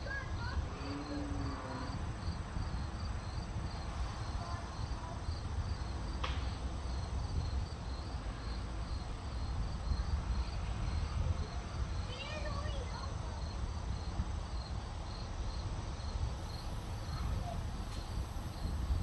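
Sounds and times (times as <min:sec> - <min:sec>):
insect chirping: 0:00.4 - 0:06.2, 0:06.8 - 0:19.0.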